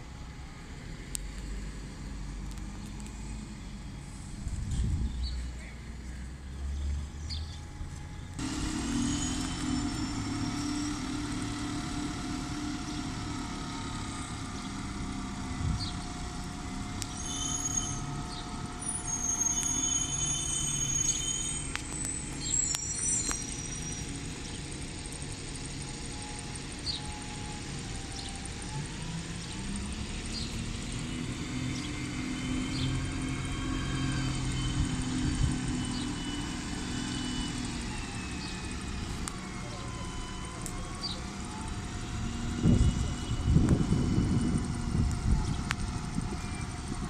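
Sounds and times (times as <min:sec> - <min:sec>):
diesel bus engine drone: 0:00.0 - 0:47.0.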